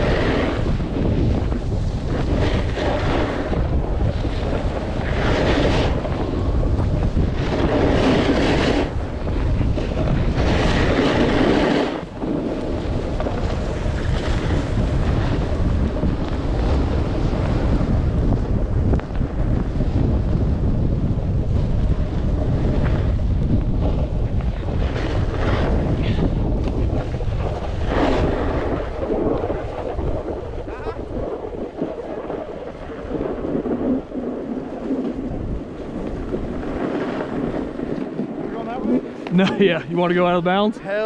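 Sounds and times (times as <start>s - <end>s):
wind on microphone: 0.0s - 41.0s.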